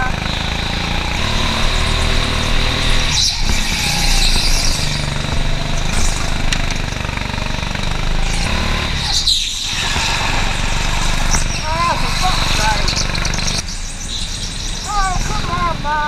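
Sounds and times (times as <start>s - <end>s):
go-kart engine running hard: 0.0s - 16.0s.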